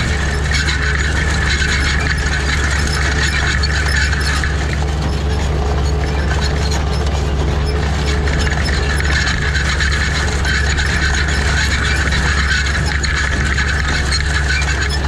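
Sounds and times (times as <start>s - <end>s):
planter mechanism clinking and rattling: 0.0s - 15.0s
tractor engine running under load: 0.0s - 15.0s.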